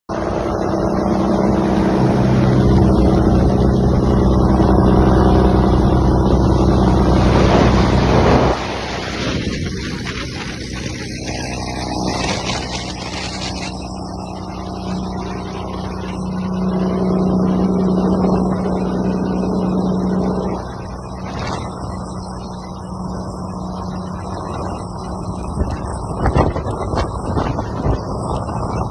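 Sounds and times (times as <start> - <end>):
diesel truck engine revving: 0.1 - 27.3.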